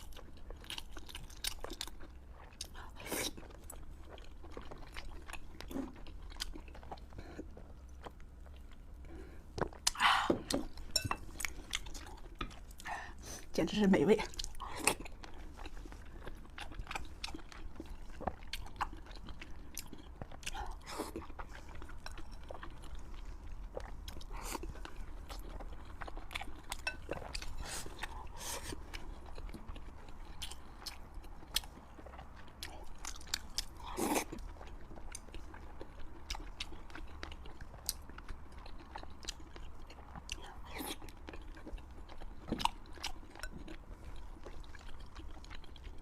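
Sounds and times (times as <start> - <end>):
chewing fried pork: 0.0 - 46.0.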